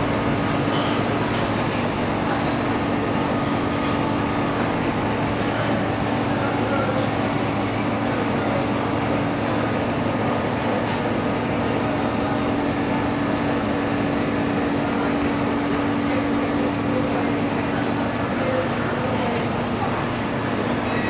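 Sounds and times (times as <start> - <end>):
refrigerated cabinet humming: 0.0 - 21.0.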